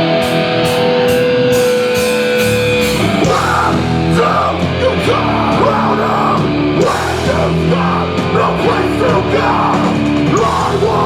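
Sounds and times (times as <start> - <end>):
punk band playing live: 0.0 - 11.0.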